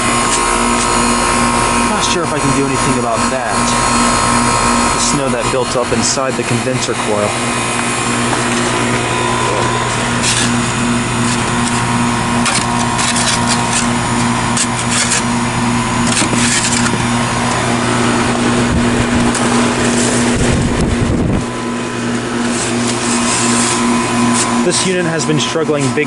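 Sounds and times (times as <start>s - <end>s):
heat pump humming: 0.0s - 26.0s.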